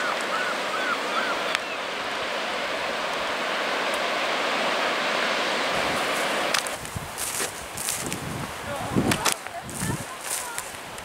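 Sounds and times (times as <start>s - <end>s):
sea waves breaking on shore: 0.0s - 11.0s.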